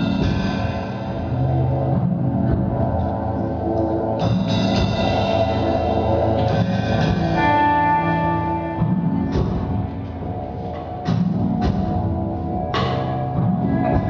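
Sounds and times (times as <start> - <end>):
guitar with echo effects: 0.0 - 11.3
drums and percussion: 0.0 - 14.0.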